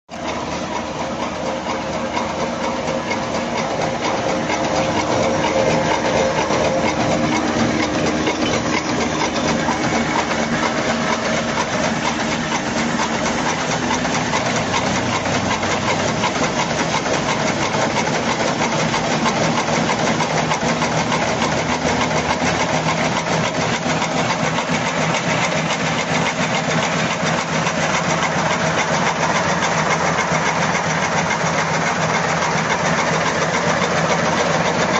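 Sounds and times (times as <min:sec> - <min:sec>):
machine clattering: 0:00.1 - 0:34.9.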